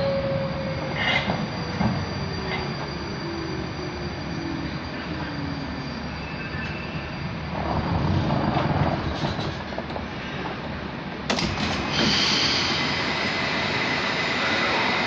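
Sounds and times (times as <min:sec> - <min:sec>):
train wheel rumble: 0:00.0 - 0:15.0.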